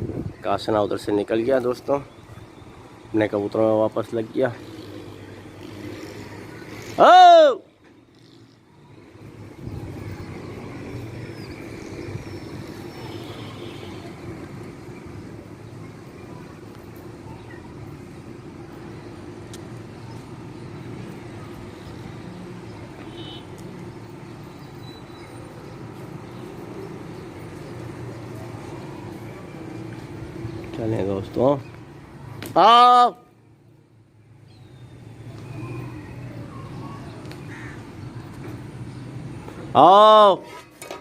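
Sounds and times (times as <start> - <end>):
city traffic rumble: 0.0 - 41.0.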